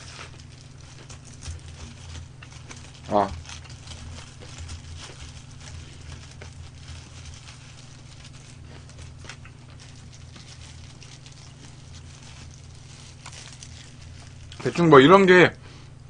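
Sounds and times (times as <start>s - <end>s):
food being pulled apart: 0.0s - 14.8s
steady low hum: 0.0s - 16.0s.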